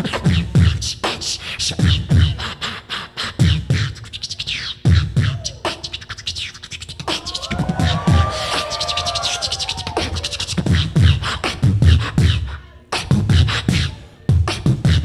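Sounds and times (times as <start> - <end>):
beatboxing through microphone: 0.0 - 15.0.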